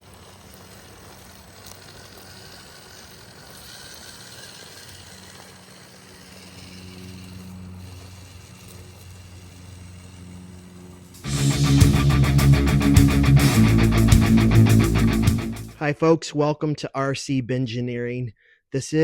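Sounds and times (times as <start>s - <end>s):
small motor humming: 0.0s - 15.7s
constant hiss: 0.0s - 15.8s.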